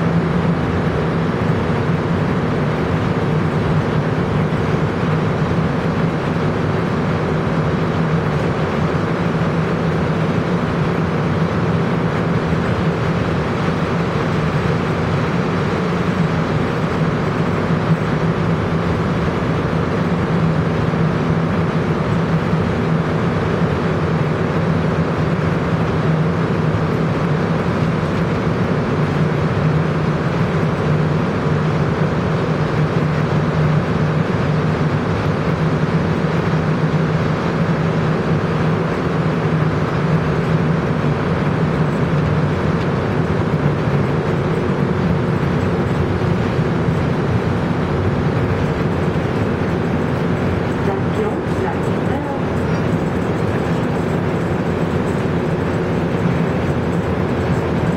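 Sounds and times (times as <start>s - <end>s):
constant hum: 0.0s - 57.9s
train rumble in tunnel: 0.0s - 57.9s.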